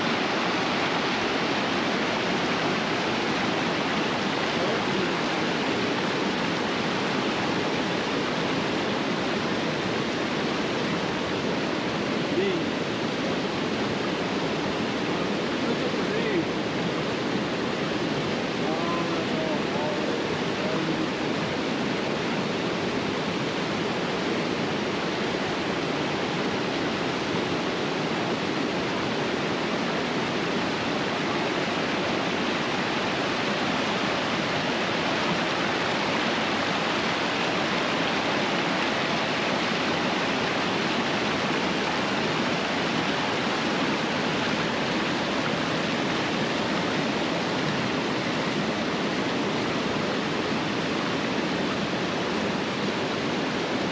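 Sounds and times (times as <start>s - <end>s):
creek water rushing over rocks: 0.0s - 53.9s.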